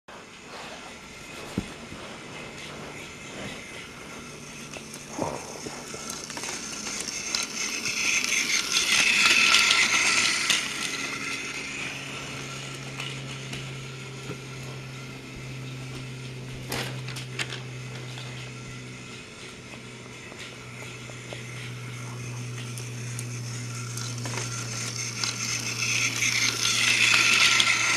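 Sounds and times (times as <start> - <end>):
toy train motor whirring: 0.2 - 27.9
toy train wheels clicking: 2.5 - 15.5, 16.7 - 27.9.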